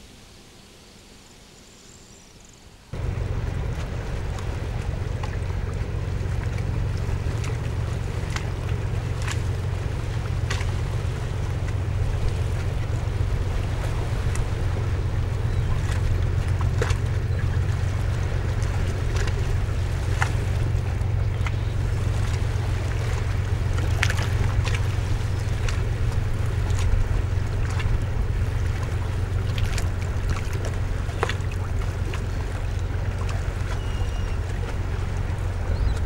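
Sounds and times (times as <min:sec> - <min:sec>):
steady low rumble: 0:02.9 - 0:36.0.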